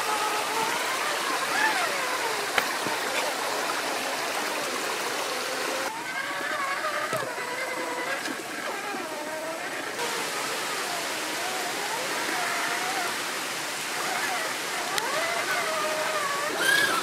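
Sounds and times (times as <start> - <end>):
electric motor whining: 0.0 - 17.0
stream running over rocks: 0.0 - 17.0.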